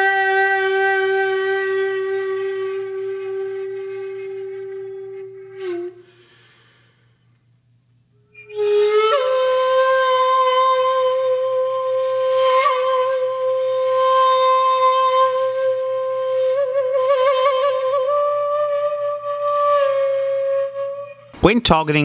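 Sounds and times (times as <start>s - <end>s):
flute-like wind instrument: 0.0s - 6.4s, 8.3s - 21.4s.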